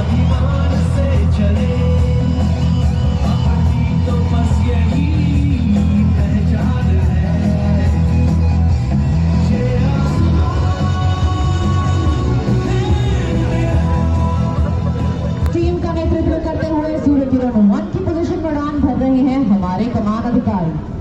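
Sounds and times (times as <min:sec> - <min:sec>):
loud music with singing: 0:00.0 - 0:19.8
heavy steady bass: 0:00.0 - 0:20.2.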